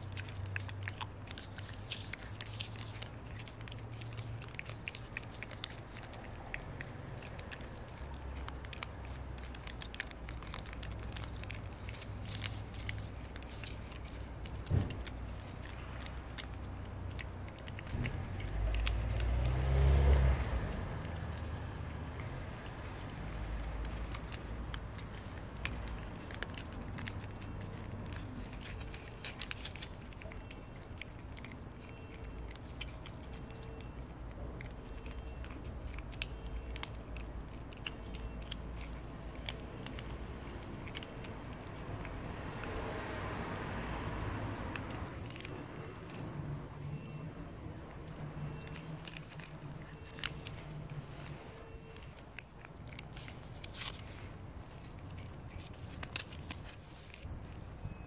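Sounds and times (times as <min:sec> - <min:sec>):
cat licking with wet clicks: 0:00.0 - 0:58.0.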